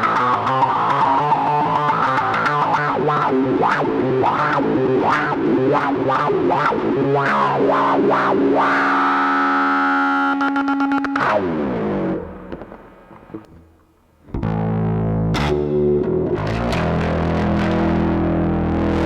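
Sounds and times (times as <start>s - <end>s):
fuzz wah electric bass: 0.0s - 12.5s, 14.3s - 19.0s.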